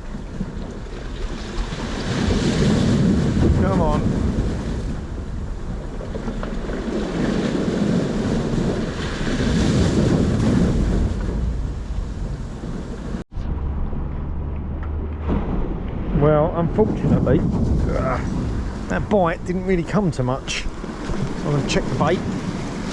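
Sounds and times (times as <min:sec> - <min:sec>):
surf on beach: 0:00.0 - 0:13.2, 0:14.3 - 0:22.9
wind buffeting microphone: 0:00.0 - 0:22.9.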